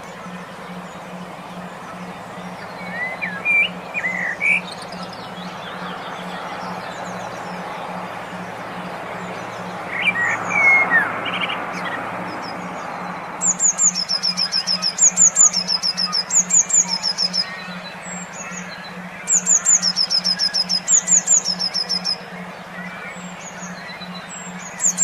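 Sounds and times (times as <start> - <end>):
low pulsing hum: 0.0 - 25.0
songbirds singing: 0.0 - 25.0.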